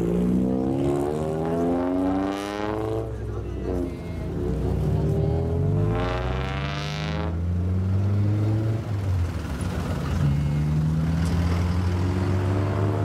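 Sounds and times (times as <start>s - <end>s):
sports car engine revving: 0.0s - 9.1s, 10.4s - 13.0s
truck engine passing: 0.0s - 13.0s.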